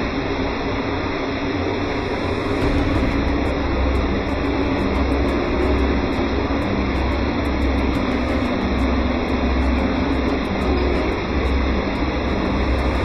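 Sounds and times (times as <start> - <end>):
pool pumps humming: 0.0 - 13.0.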